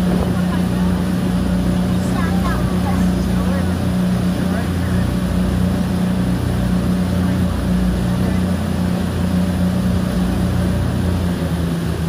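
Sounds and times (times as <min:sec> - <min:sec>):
outboard motor droning: 0:00.0 - 0:12.0
water rushing in boat wake: 0:00.0 - 0:12.0.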